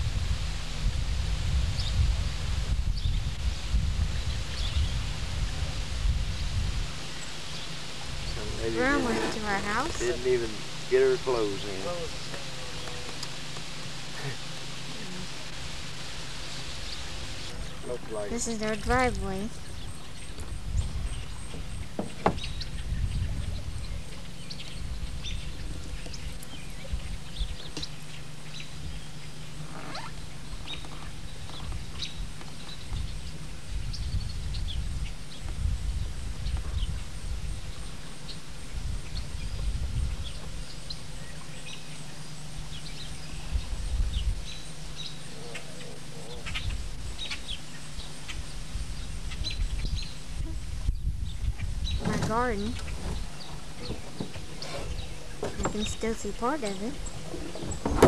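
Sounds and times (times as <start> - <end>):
wind buffeting microphone: 0.0 - 14.3, 16.6 - 29.4, 30.3 - 41.9, 42.6 - 45.5, 46.2 - 58.0
steady low hum: 0.0 - 58.0.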